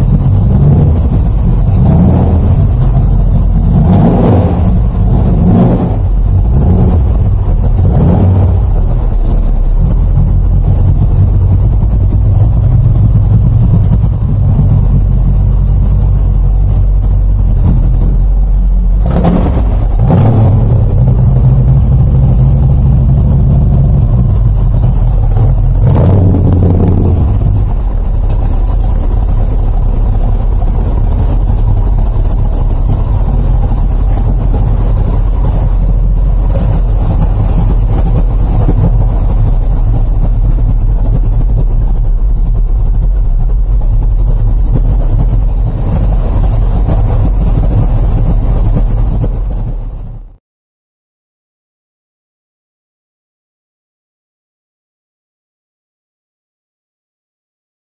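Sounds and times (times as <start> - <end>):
car engine idling and revving: 0.0 - 50.4.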